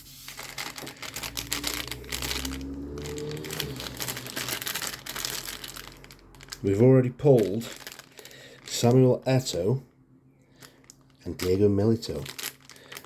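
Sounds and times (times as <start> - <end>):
foil pack crinkling and rustling: 0.0 - 9.7, 10.5 - 13.0.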